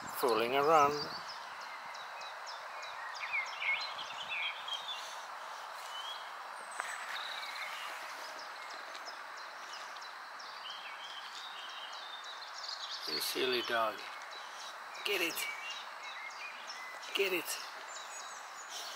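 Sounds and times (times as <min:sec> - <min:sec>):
outdoor background hiss: 0:00.0 - 0:18.9
small birds chirping: 0:00.0 - 0:18.9.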